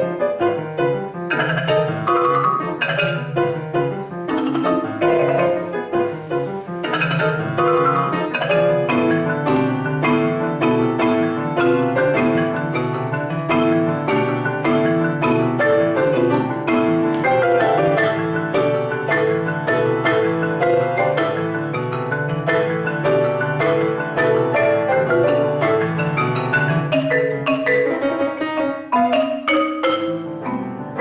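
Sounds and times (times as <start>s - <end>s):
marimba playing fast runs: 0.5s - 31.0s.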